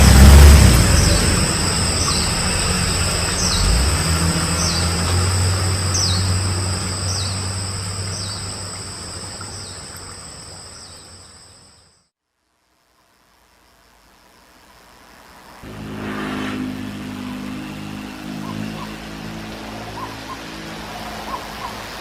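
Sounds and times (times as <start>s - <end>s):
low engine hum: 0.0s - 11.5s, 15.6s - 22.0s
insects droning: 0.0s - 22.0s.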